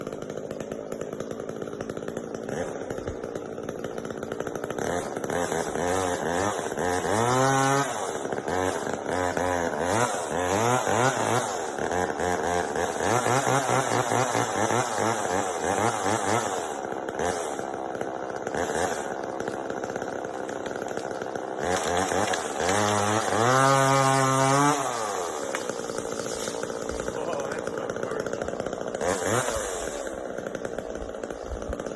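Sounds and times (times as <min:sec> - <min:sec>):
chainsaw engine revving: 0:00.0 - 0:31.9.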